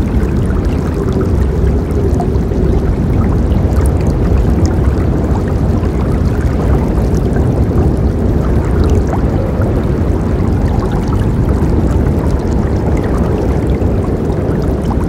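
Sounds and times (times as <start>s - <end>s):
small water splashes: 0.0s - 15.0s.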